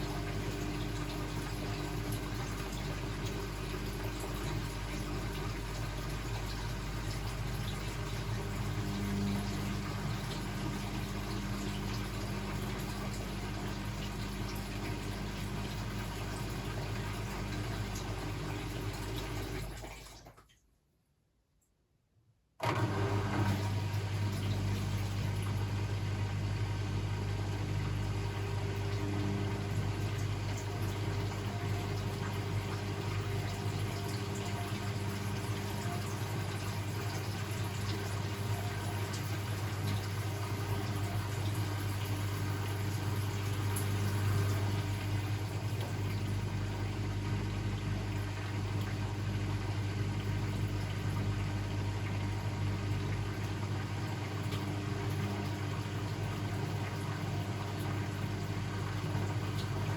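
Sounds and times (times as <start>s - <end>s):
washing machine humming: 0.0s - 20.4s, 22.6s - 59.9s.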